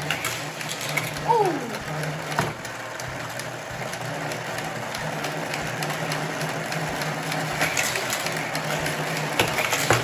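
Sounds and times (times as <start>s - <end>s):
toy cars clicking and rattling: 0.0s - 10.0s
toy motor hum: 0.0s - 10.0s.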